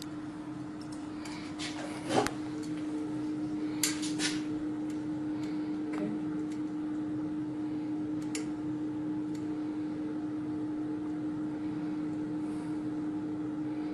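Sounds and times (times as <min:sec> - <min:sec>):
machine hum: 0:00.0 - 0:13.9.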